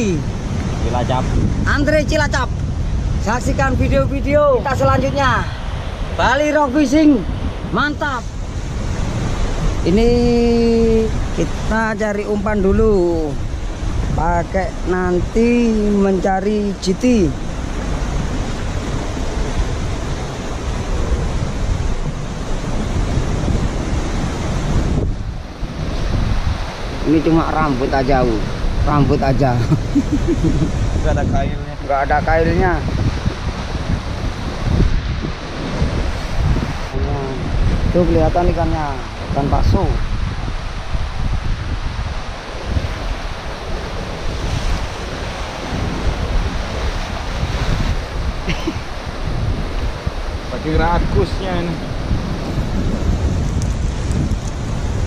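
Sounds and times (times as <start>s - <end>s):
sea surf churning against rocks: 0.0s - 55.0s
wind rumbling on microphone: 0.0s - 55.0s.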